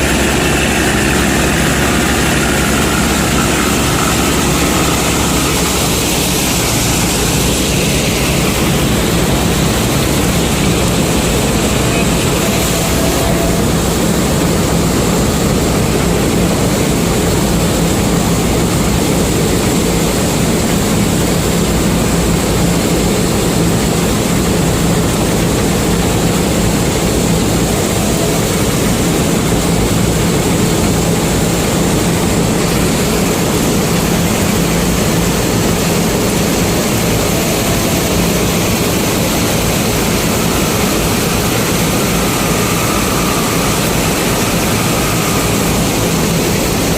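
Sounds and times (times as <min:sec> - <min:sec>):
combine harvester engine running: 0:00.0 - 0:46.9.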